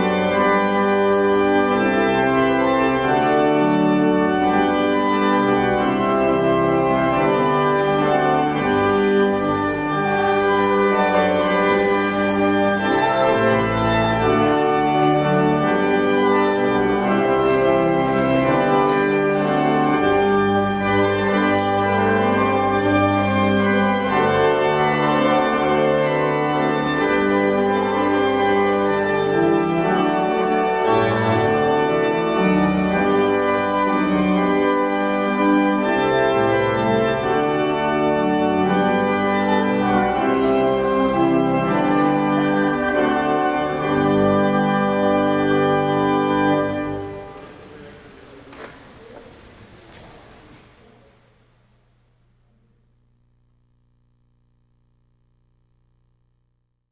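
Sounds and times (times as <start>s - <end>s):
church organ chords: 0.0s - 56.8s.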